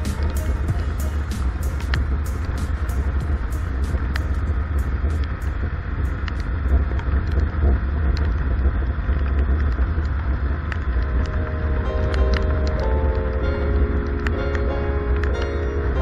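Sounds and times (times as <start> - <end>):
sharp ticks: 0.0 - 15.6
heavy wind rumble: 0.0 - 16.0
motorcycle engine and road noise: 0.0 - 16.0.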